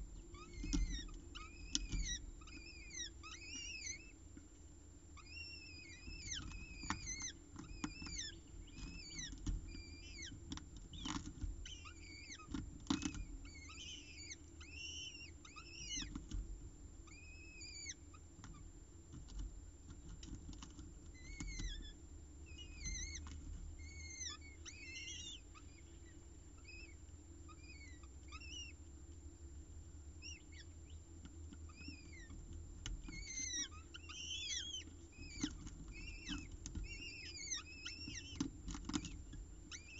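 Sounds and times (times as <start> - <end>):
chicks begging chirps: 0.0 - 4.3, 5.0 - 16.3, 17.0 - 18.7, 21.1 - 29.3, 30.0 - 39.9
steady low hum: 0.0 - 39.9.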